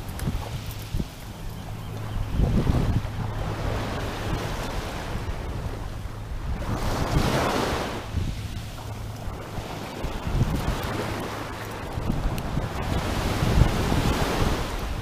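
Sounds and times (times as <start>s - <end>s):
waves washing on sandy beach: 0.0s - 15.0s
wind on microphone: 0.0s - 15.0s.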